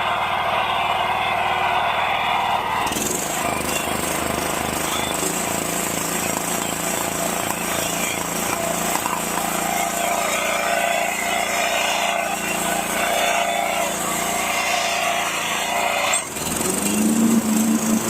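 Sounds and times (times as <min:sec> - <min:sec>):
lawn mower engine running: 0:02.8 - 0:18.0.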